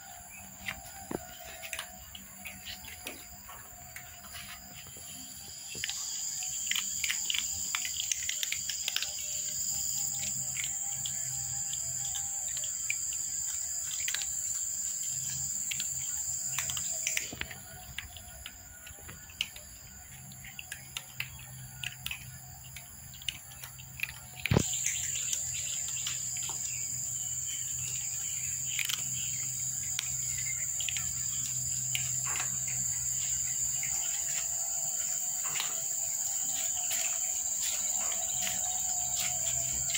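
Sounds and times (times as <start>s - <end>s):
cats crunching dry kibble: 0.0s - 39.9s
high-pitched insect drone: 0.0s - 39.9s.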